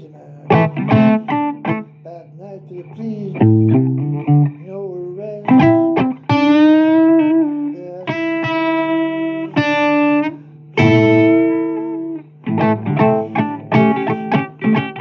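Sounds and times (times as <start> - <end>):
blues guitar solo: 0.0 - 2.2, 2.8 - 15.0.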